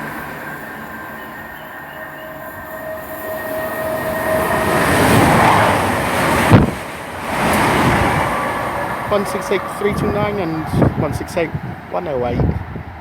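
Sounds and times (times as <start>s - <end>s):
trains passing at speed: 0.0s - 13.0s.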